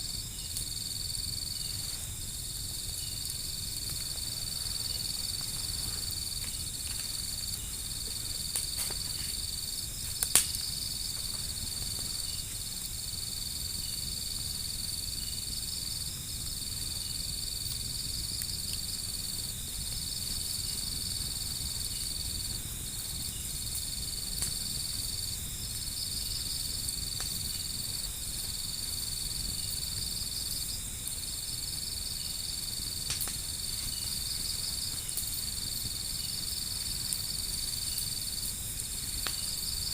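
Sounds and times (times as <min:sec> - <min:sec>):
fire crackling: 0:00.0 - 0:39.9
insects trilling: 0:00.0 - 0:39.9.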